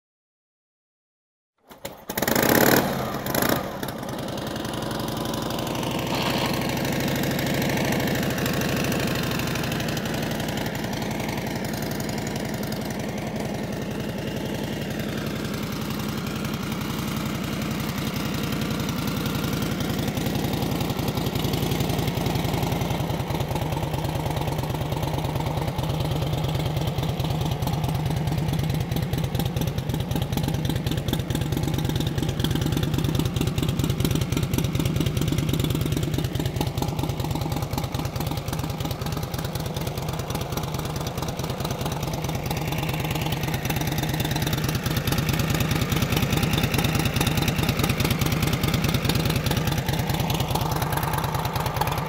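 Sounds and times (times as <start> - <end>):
motorcycle engine starting and idling: 1.6 - 52.0.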